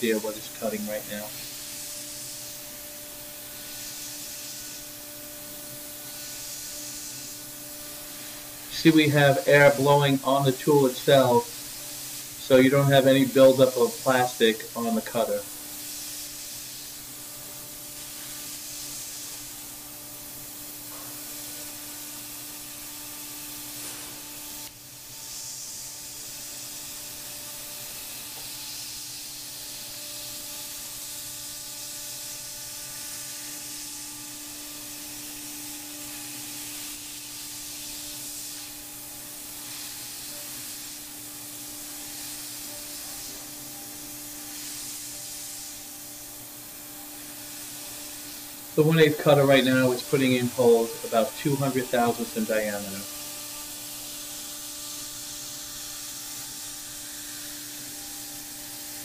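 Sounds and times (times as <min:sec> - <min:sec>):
compressed air hiss: 0:00.0 - 0:59.0
router spindle whine: 0:00.0 - 0:59.0.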